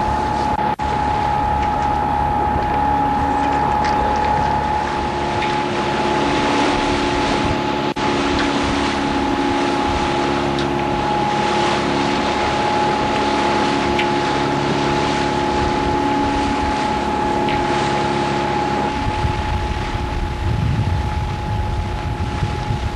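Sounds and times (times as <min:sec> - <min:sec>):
boat engine running with whine: 0:00.0 - 0:22.9
water rushing: 0:00.0 - 0:22.9
wind: 0:00.0 - 0:22.9.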